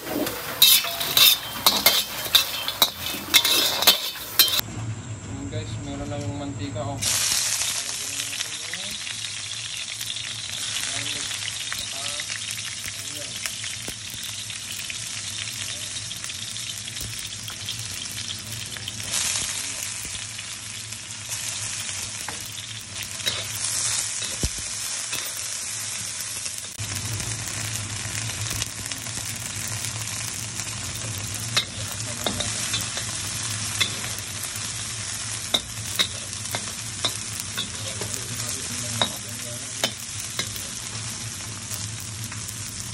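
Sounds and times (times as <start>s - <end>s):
meat sizzling in oil: 0.0s - 4.6s, 7.0s - 42.9s.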